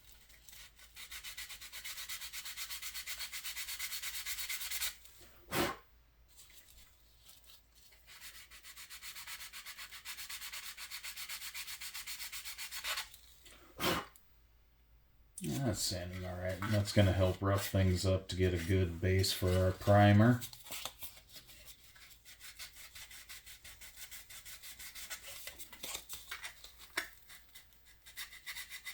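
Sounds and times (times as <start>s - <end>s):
sandpaper scratching on plastic: 0.0s - 5.0s, 6.4s - 13.4s, 15.5s - 28.9s.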